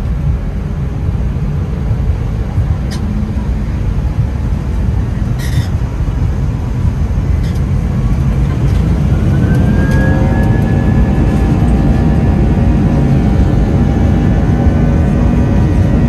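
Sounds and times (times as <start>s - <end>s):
jet engines whine: 0.0s - 16.0s
low rumble of rolling plane: 0.0s - 16.0s.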